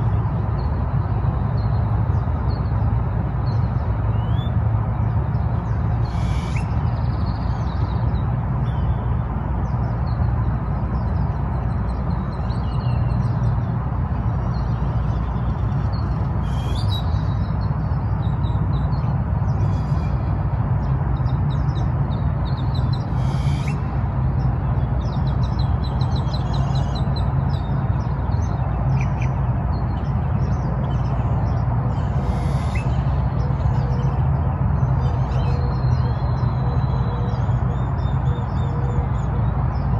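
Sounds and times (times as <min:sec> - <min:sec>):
birds chirping and trilling: 0:03.4 - 0:39.9.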